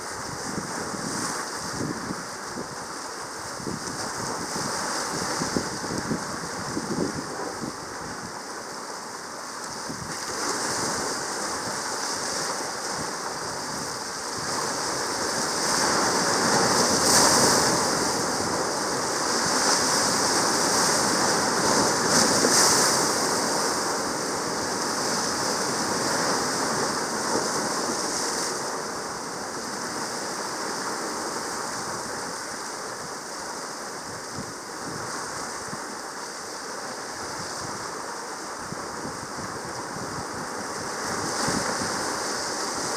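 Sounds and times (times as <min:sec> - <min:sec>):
sea water washing: 0:00.0 - 0:42.9.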